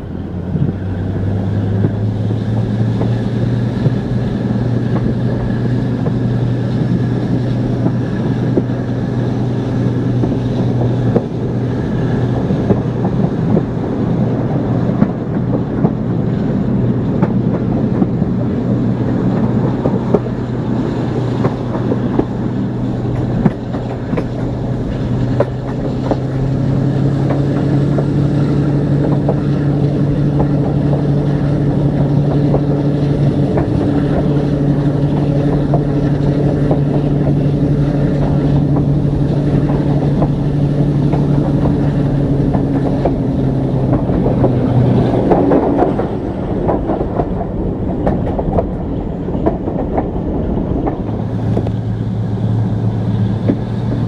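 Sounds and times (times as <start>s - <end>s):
diesel locomotive engine drone: 0.0s - 54.0s
wheels clicking over rail joints: 0.0s - 54.0s.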